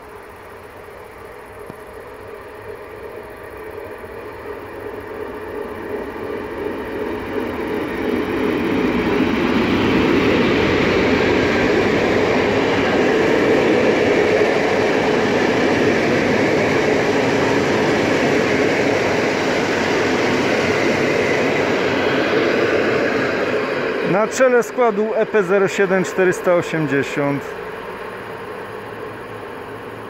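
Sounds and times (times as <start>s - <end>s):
electric locomotive passing: 0.0s - 30.0s
train wheels on rails: 0.0s - 30.0s.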